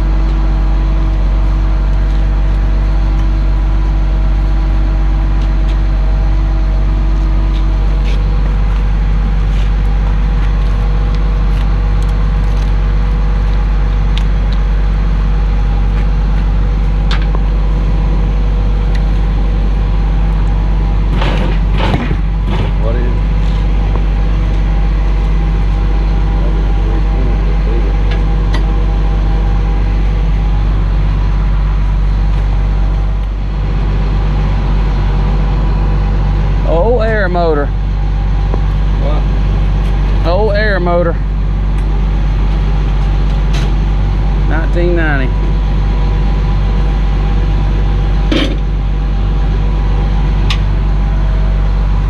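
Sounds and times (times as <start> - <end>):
truck engine humming: 0.0 - 52.0.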